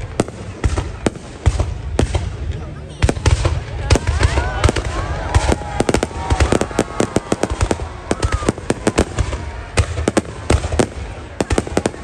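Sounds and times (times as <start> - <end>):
fireworks cracking and banging: 0.0 - 12.0.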